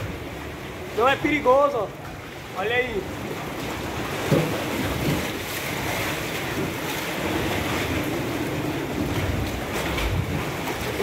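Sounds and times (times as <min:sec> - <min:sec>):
waves sloshing in sea cave: 0:00.0 - 0:11.0.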